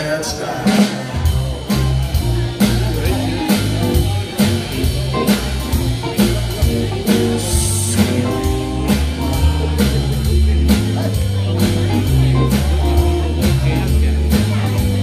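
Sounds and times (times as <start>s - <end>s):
bass guitar: 0.0s - 15.0s
drum kit beating rhythm: 0.0s - 15.0s
electric guitar lead: 0.6s - 15.0s.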